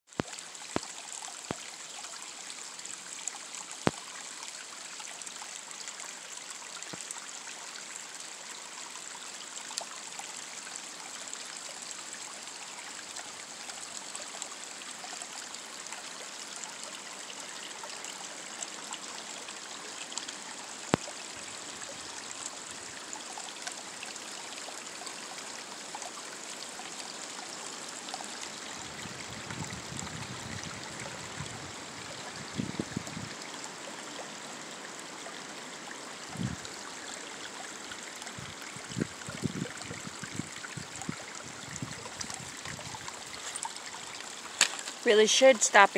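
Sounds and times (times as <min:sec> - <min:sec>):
stream running over rocks: 0:00.1 - 0:45.9.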